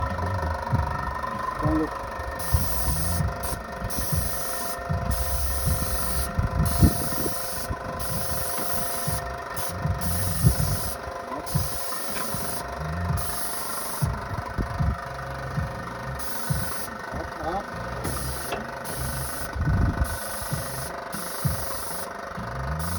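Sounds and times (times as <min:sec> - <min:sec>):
garage door humming: 0:00.0 - 0:22.9.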